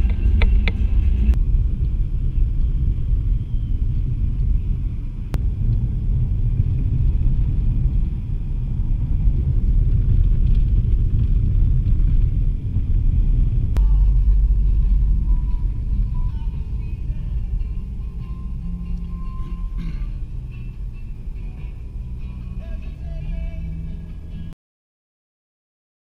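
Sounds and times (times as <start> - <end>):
car cabin road and wind noise: 0.0 - 24.6.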